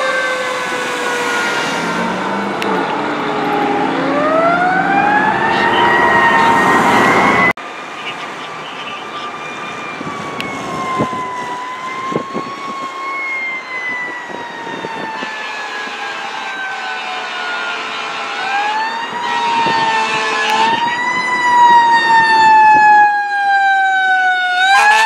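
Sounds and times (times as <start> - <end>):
fire truck siren wailing: 0.0 - 25.0
passing traffic: 0.0 - 25.0.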